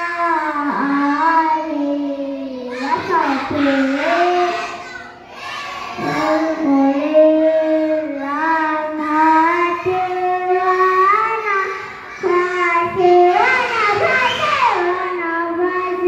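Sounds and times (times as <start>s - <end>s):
young children singing: 0.0s - 16.0s.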